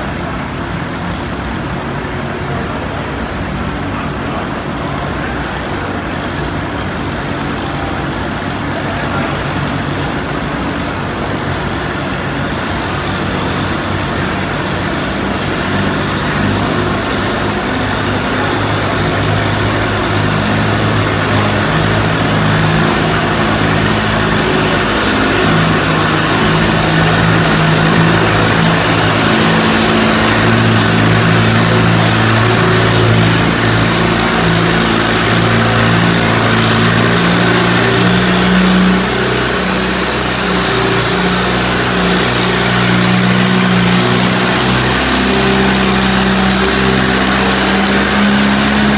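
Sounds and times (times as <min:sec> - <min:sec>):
tractor engine running hard: 0:00.0 - 0:48.9.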